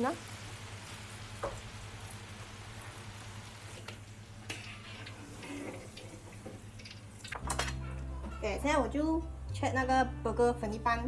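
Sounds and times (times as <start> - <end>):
oil sizzling in a wok: 0.0 - 9.5.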